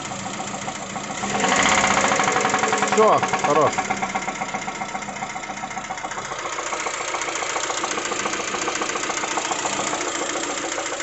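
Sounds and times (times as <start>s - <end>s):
car engine idling: 0.0s - 11.0s
fast knocking inside engine: 0.0s - 11.0s.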